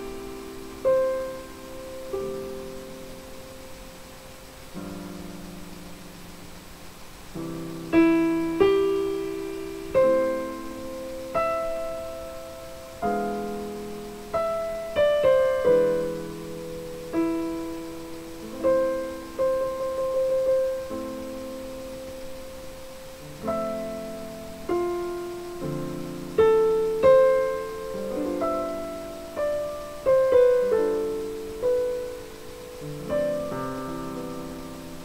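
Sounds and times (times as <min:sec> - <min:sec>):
slow piano chords: 0:00.0 - 0:35.0.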